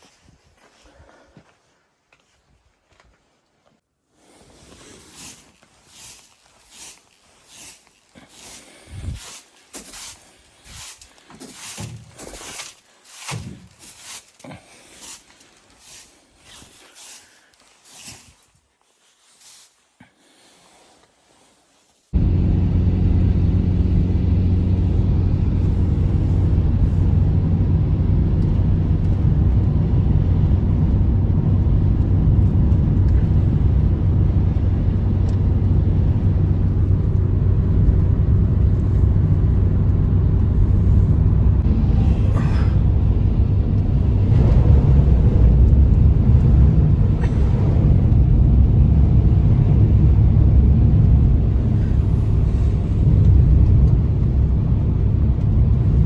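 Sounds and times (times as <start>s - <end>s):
blizzard wind blowing: 4.1s - 56.0s.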